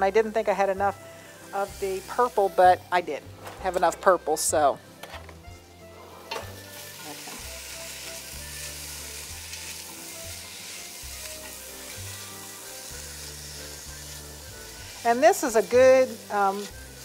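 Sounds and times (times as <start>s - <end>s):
onion sizzling in butter: 0.0s - 3.0s, 5.6s - 17.0s.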